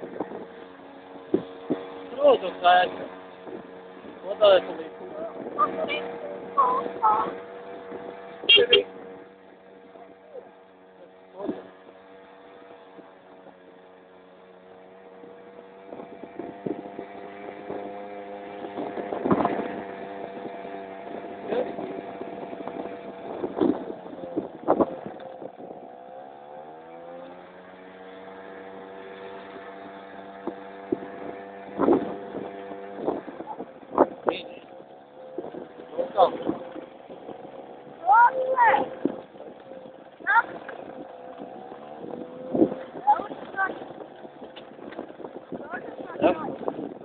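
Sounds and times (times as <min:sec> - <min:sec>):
scooter engine running: 0:00.0 - 0:47.0.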